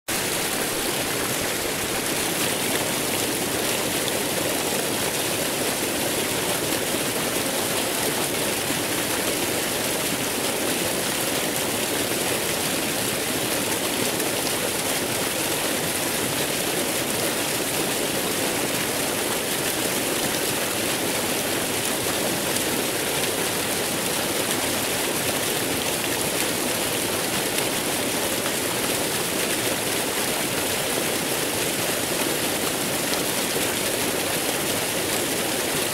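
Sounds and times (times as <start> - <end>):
waterfall rushing and splashing: 0.1 - 35.9.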